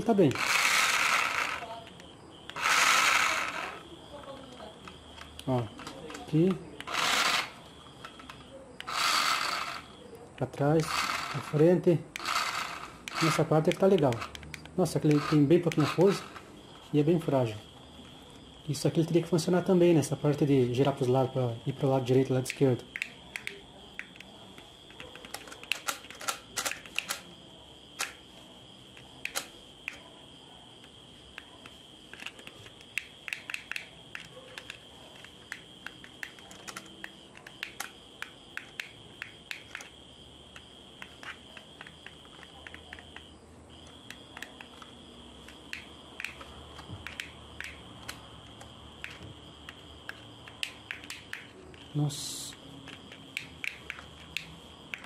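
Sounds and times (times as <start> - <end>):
plastic clicks of toy remote: 0.4 - 16.4, 22.4 - 27.3, 28.0 - 28.2, 29.2 - 30.0, 31.3 - 39.9, 40.5 - 51.9, 52.8 - 55.0.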